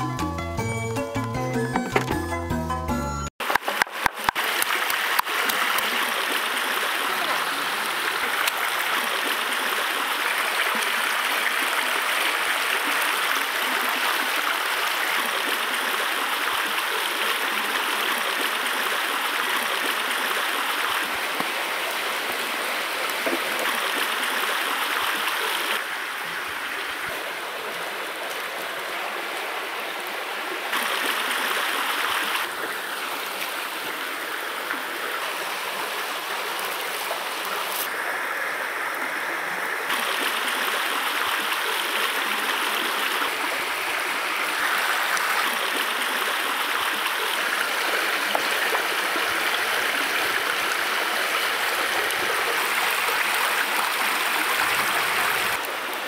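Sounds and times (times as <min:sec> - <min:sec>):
running water rushing: 0:03.4 - 0:56.0.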